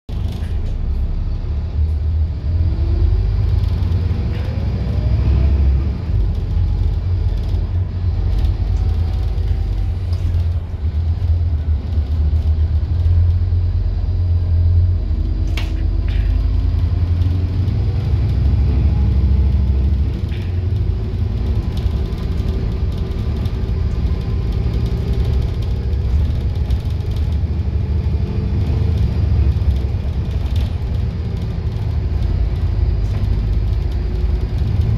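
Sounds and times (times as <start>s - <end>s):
bus diesel engine and road rumble: 0.1s - 34.9s.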